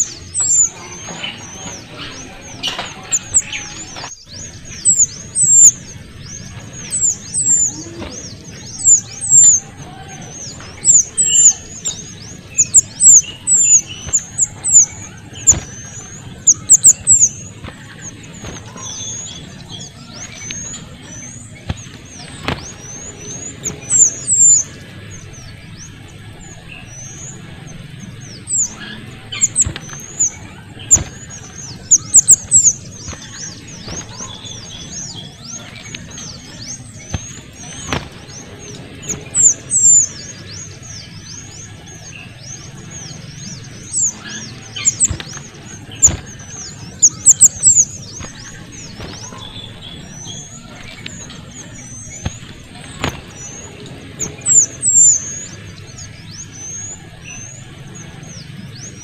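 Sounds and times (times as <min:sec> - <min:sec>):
songbird high thin chirps: 0:00.0 - 0:25.5, 0:28.3 - 0:57.6
low background rumble: 0:00.0 - 0:59.0.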